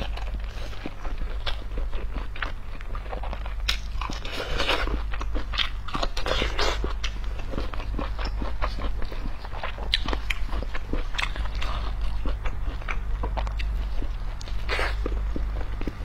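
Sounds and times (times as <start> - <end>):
crunching and chewing pickle: 0.0 - 16.0.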